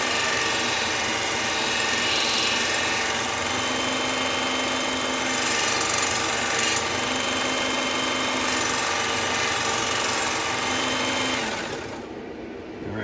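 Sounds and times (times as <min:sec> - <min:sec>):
belt sharpener motor hum: 0:00.0 - 0:12.1.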